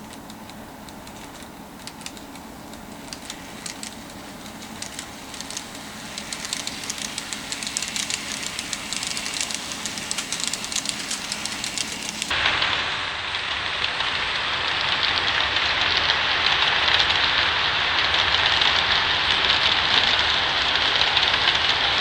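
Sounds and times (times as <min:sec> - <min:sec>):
model train motor hum: 0:00.0 - 0:12.4, 0:14.7 - 0:22.0
wheels clicking on rails: 0:00.0 - 0:12.4, 0:14.7 - 0:22.0.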